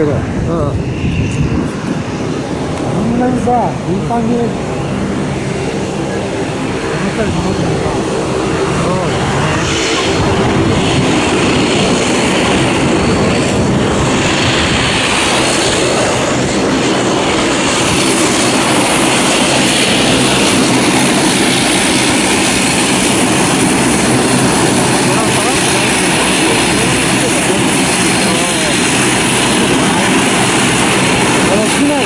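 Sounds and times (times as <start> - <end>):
jet engine running: 0.0 - 32.0
turboprop propellers turning: 0.0 - 32.0.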